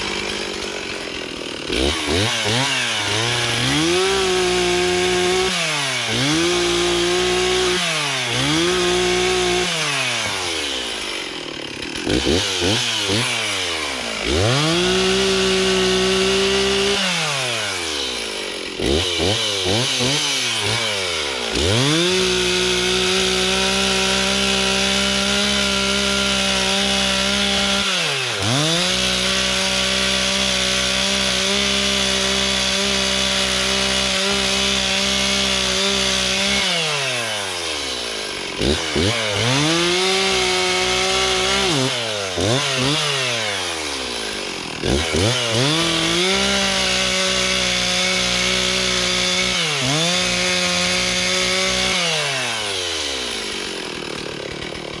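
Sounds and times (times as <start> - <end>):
chainsaw revving and cutting wood: 0.0 - 55.0.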